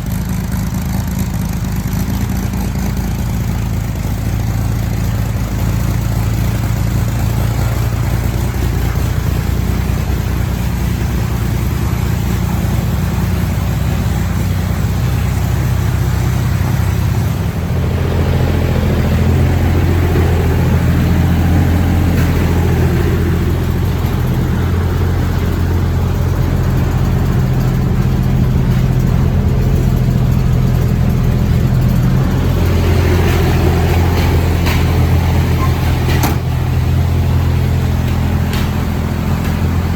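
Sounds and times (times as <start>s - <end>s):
flat-six engine running: 0.0s - 39.9s.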